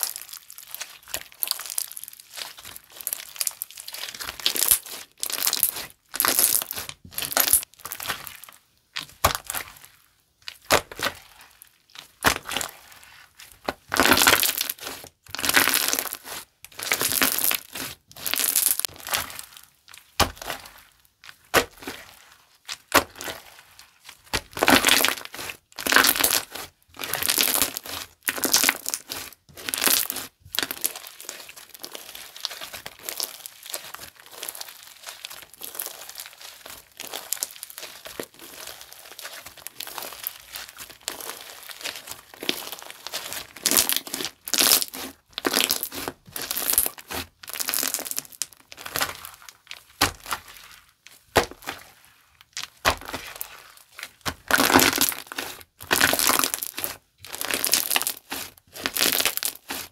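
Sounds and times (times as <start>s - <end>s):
slime squeezed crackling: 0.0s - 59.9s.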